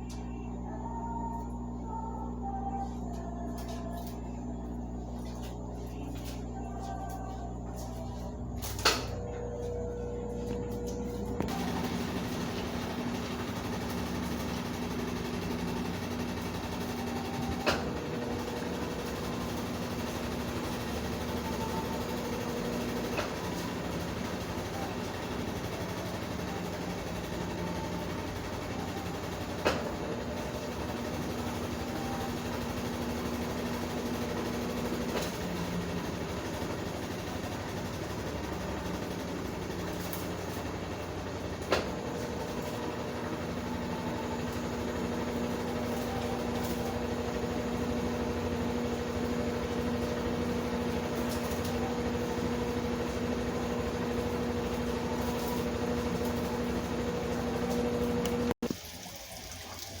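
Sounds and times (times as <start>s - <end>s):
washing machine spinning: 0.0s - 60.0s.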